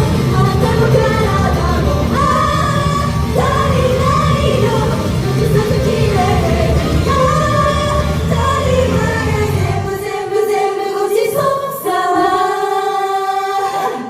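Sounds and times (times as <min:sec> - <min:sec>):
pop song with group vocals: 0:00.0 - 0:14.0.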